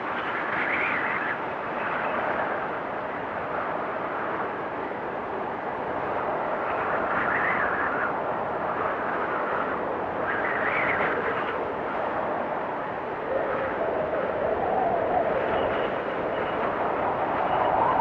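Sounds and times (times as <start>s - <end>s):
howling blizzard wind: 0.0s - 18.0s.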